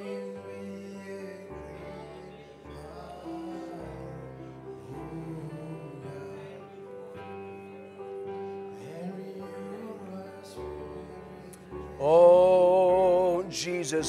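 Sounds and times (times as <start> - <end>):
quiet singing: 0.0 - 14.0.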